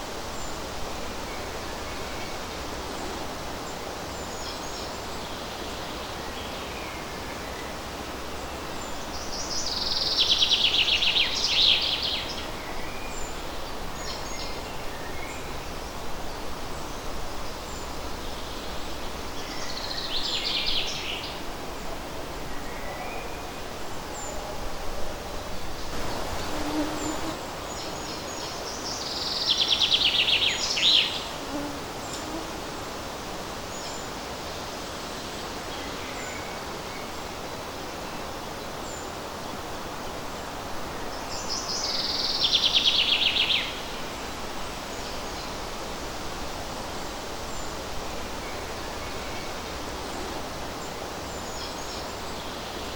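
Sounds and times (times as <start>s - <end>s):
leaves rustling in breeze: 0.0s - 52.9s.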